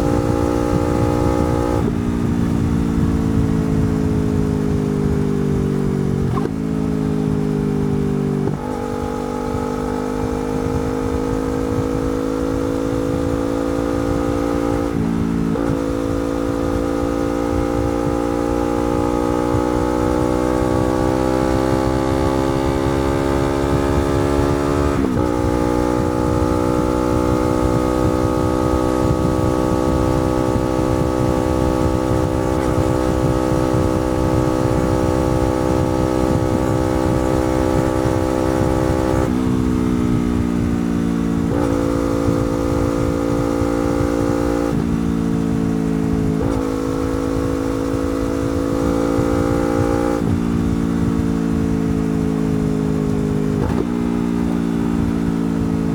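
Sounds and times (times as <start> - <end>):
motorcycle engine riding: 0.0 - 55.9.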